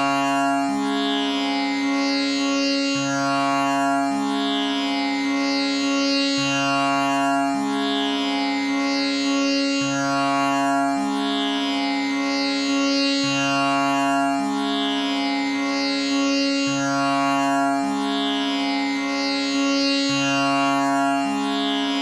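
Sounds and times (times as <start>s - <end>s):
tanpura drone: 0.0s - 22.0s.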